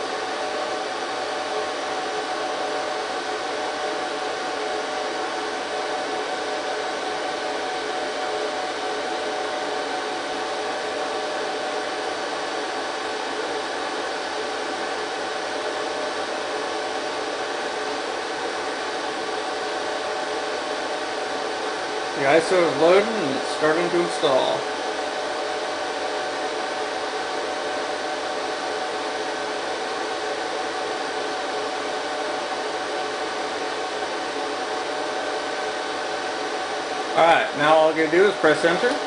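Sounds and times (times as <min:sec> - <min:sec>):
server cooling fans whirring: 0:00.0 - 0:39.0.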